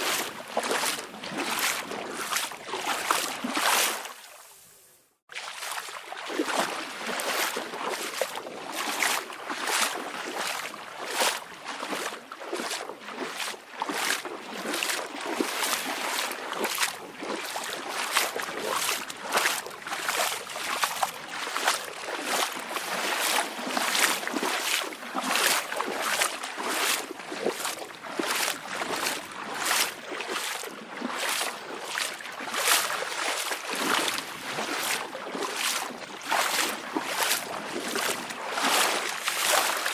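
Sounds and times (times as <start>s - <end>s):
waves lapping and splashing: 0.0s - 39.9s.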